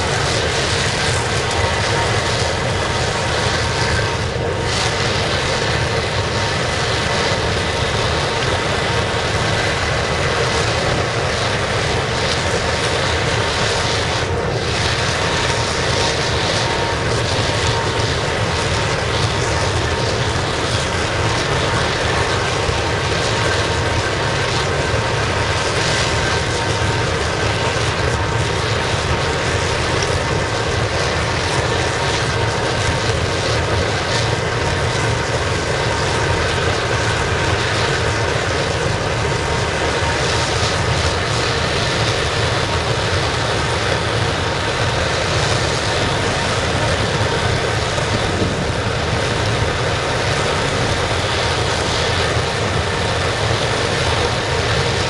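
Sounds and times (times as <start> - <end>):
oil burner roaring: 0.0 - 55.0.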